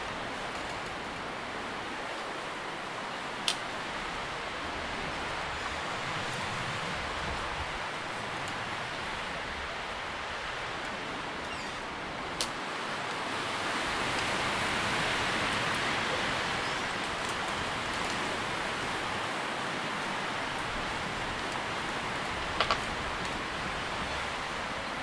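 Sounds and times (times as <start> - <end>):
wind rustling tree leaves: 0.0 - 25.0.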